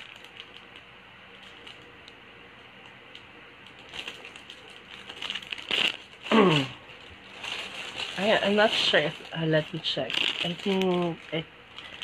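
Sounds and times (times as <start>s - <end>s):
plastic bags rustling and clicking: 0.0s - 2.2s, 2.8s - 12.0s.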